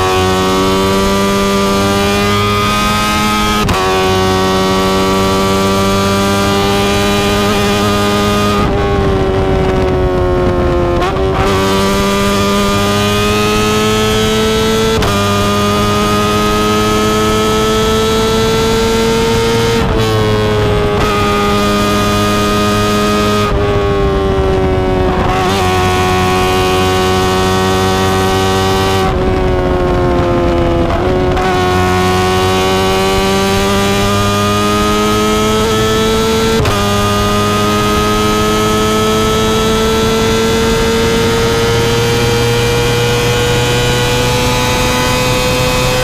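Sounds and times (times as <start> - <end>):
motorcycle engine while riding: 0.0 - 46.0.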